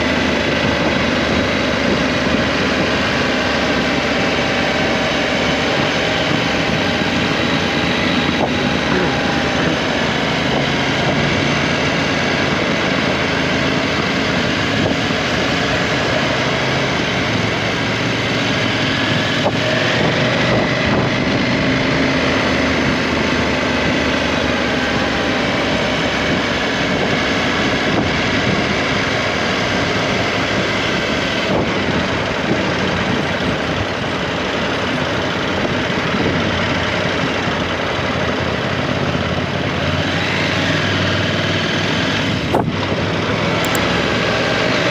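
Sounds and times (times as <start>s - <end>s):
motorcycle engine at speed: 0.0s - 44.9s
wind and road noise: 0.0s - 44.9s.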